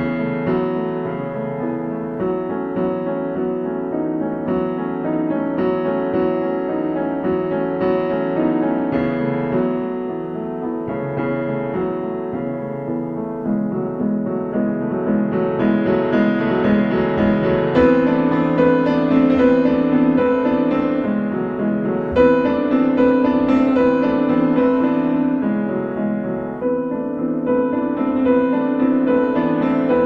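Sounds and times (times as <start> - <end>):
background piano music: 0.0 - 30.0.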